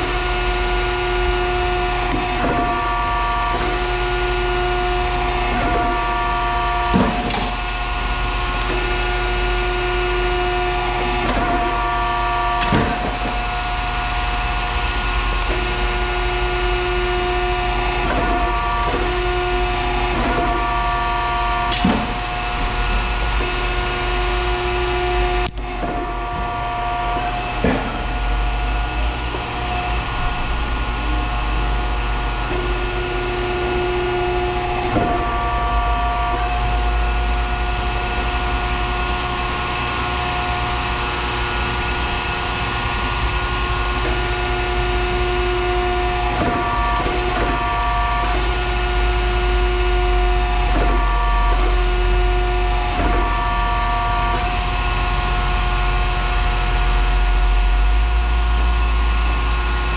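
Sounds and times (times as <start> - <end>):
machine whining: 0.0 - 59.9.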